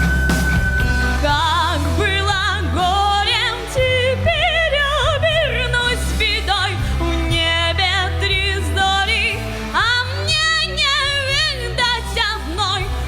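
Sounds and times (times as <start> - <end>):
backing track with bass: 0.0 - 13.0
girl singing with vibrato: 1.2 - 13.0.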